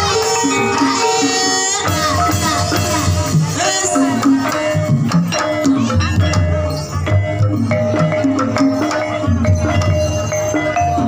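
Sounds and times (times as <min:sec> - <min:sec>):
gamelan gong-kettles ringing: 0:00.0 - 0:11.0
steady drum beat: 0:00.0 - 0:11.0.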